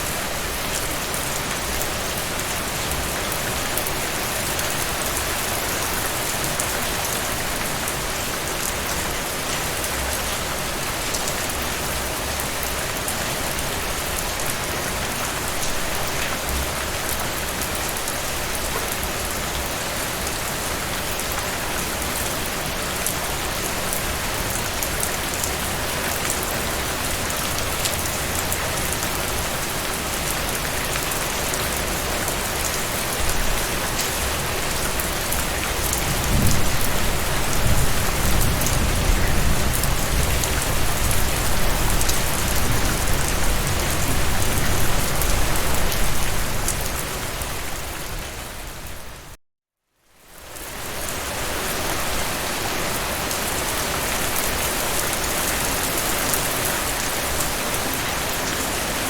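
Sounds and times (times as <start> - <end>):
heavy rain falling: 0.0 - 49.4, 50.5 - 59.0.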